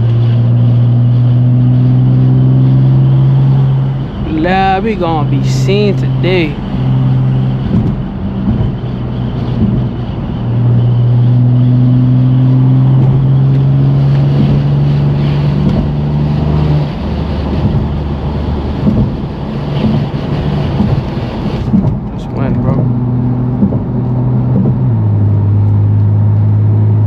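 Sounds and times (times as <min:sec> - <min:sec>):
car engine droning: 0:00.0 - 0:27.0
road noise: 0:00.0 - 0:27.0
wind noise: 0:00.0 - 0:27.0.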